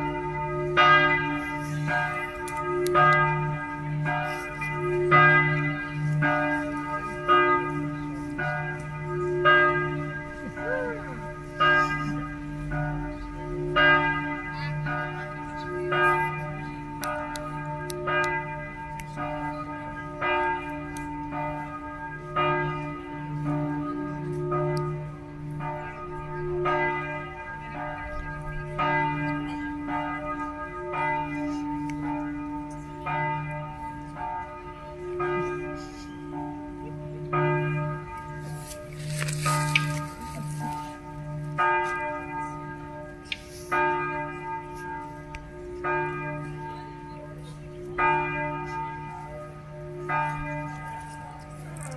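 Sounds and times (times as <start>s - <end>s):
church bells struck with hammer: 0.0s - 51.9s.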